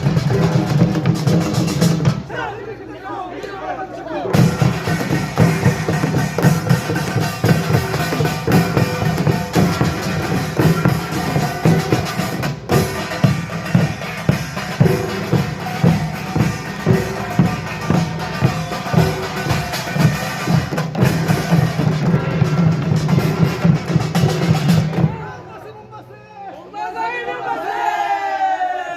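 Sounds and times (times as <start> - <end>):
drums beating: 0.0 - 2.8, 4.1 - 26.1.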